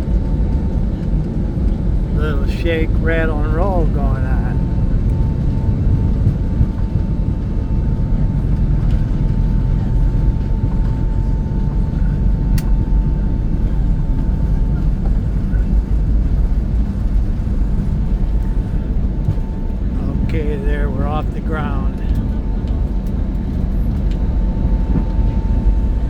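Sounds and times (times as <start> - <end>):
jet engines rumbling with whine: 0.0 - 26.0.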